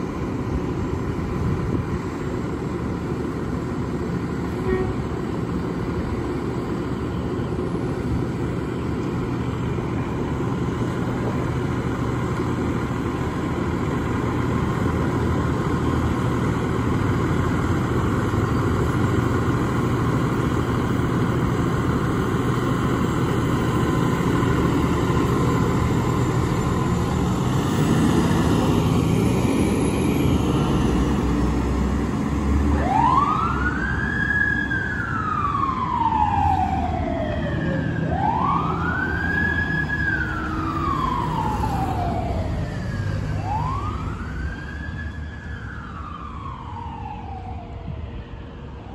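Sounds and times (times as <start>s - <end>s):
vehicle engines low rumble: 0.0s - 48.9s
emergency siren wailing: 1.9s - 48.9s.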